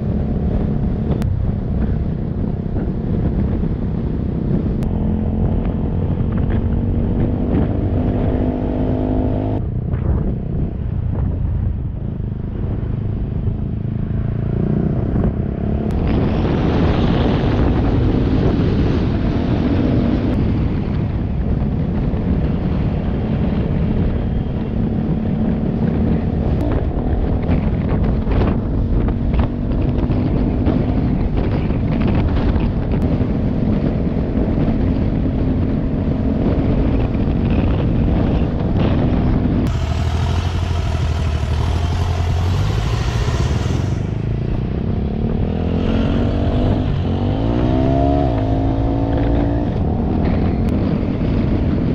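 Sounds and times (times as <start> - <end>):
motorcycle engine running: 0.0 - 47.4
wind rushing over microphone: 0.0 - 51.9.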